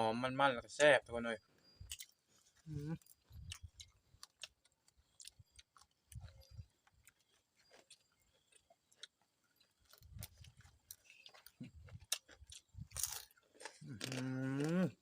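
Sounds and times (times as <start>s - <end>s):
chewing crunchy food: 1.4s - 15.0s.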